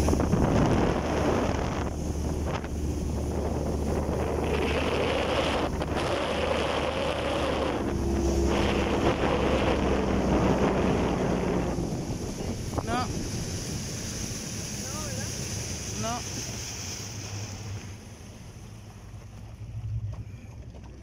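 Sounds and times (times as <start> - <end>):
motorboat engine running: 0.0 - 21.0
water splashing along hull: 0.0 - 21.0
wind buffeting microphone: 0.0 - 21.0.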